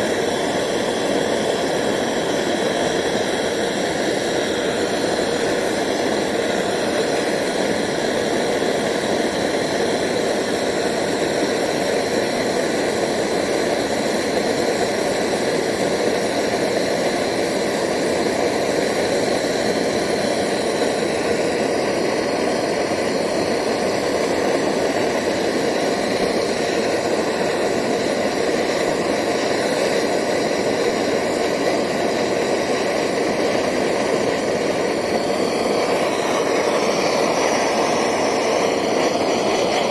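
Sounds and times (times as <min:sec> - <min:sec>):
blowtorch hissing: 0:00.0 - 0:39.9.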